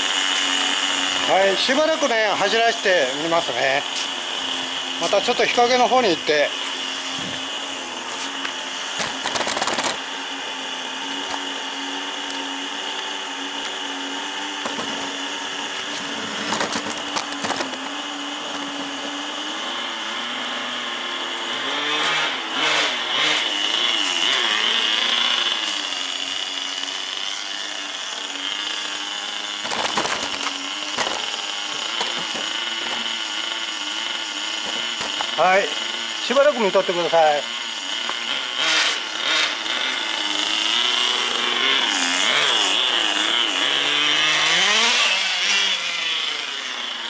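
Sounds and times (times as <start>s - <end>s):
small nitro engine buzzing: 0.0s - 47.0s.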